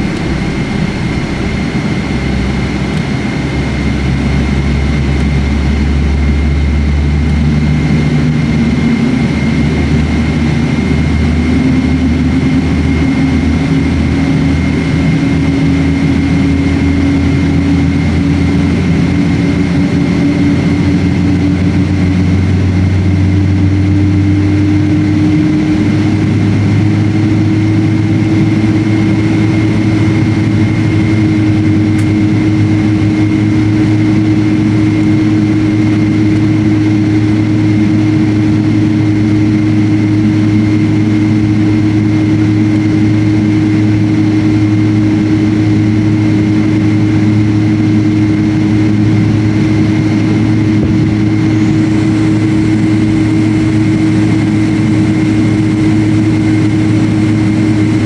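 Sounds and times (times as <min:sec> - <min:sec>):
faint high whine: 0:00.0 - 0:58.0
jet engine drone in cabin: 0:00.0 - 0:58.0.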